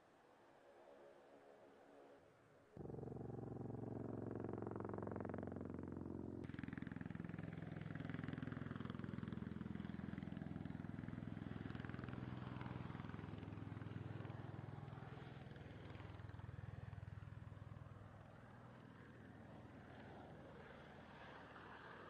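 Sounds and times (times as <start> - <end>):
aircraft engines and rotors droning: 0.0 - 22.0.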